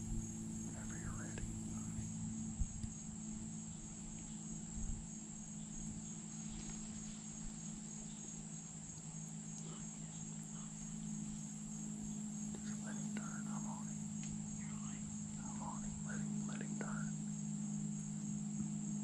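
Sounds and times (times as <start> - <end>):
faint low hum: 0.0 - 19.0
insects trilling: 0.0 - 19.0.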